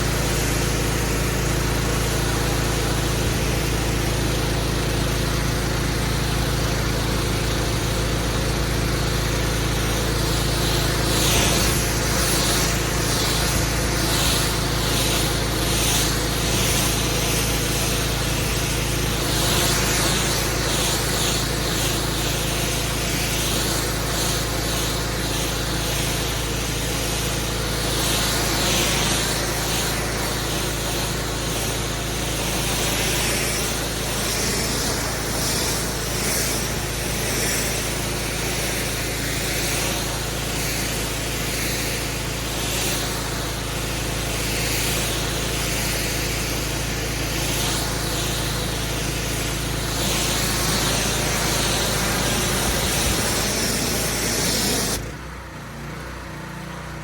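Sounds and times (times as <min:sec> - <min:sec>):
pressure washer engine running: 0:00.0 - 0:57.0
water jet hissing over paving: 0:00.0 - 0:57.0.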